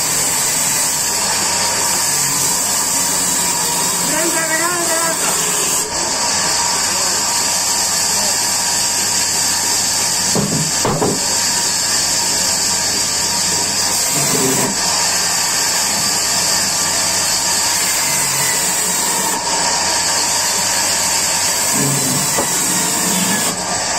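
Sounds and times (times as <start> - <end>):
sawmill saw cutting log: 0.0 - 23.9.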